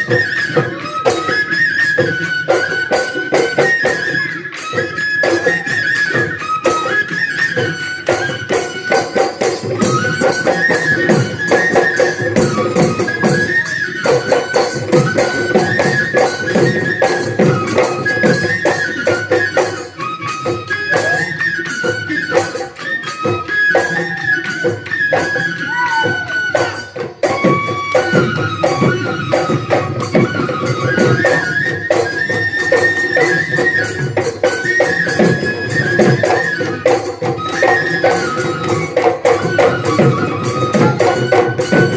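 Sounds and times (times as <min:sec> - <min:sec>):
jingling cymbals: 0:00.0 - 0:41.9
wind instrument melody: 0:00.0 - 0:41.9.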